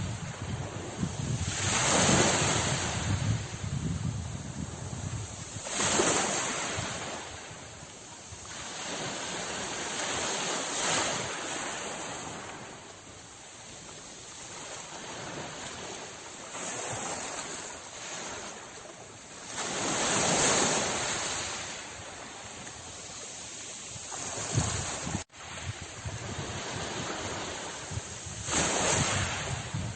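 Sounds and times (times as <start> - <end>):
sea waves breaking: 0.0 - 29.9.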